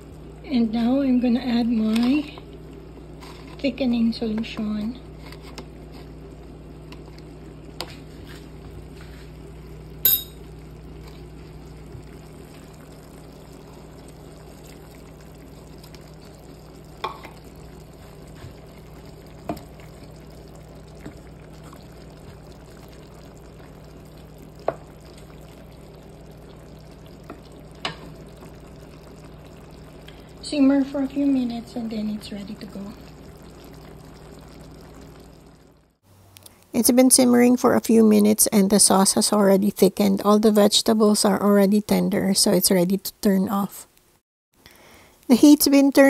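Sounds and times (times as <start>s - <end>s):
sauce bubbling in a pan: 0.0s - 40.7s.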